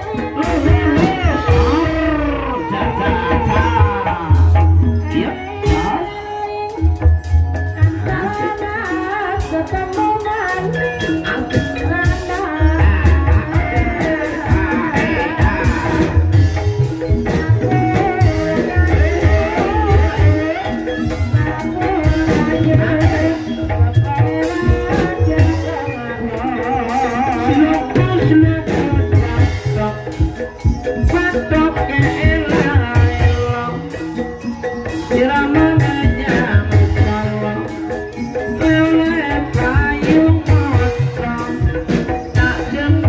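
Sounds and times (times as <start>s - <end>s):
person singing: 0.0s - 43.0s
ringing metal percussion: 0.0s - 43.0s.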